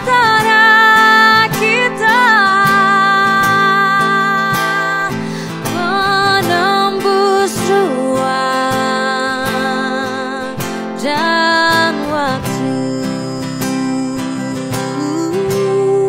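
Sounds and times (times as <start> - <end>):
plucked acoustic guitar: 0.0 - 16.0
woman singing a ballad: 0.0 - 16.0.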